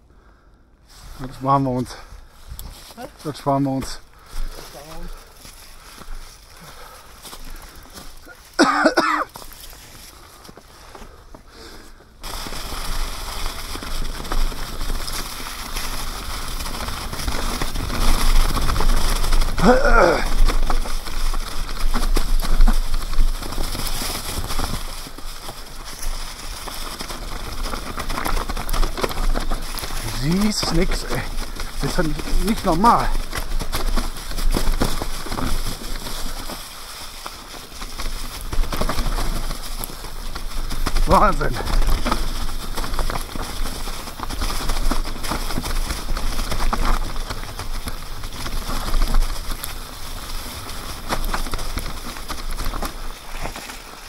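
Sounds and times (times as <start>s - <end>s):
bike tyres rolling over dry leaves: 0.0s - 54.0s.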